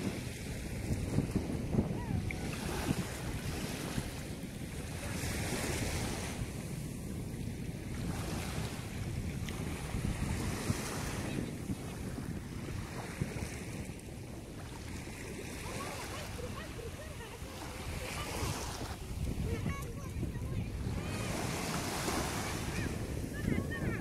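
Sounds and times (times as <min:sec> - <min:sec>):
sea waves washing onto beach: 0:00.0 - 0:24.0
wind buffeting microphone: 0:00.0 - 0:24.0.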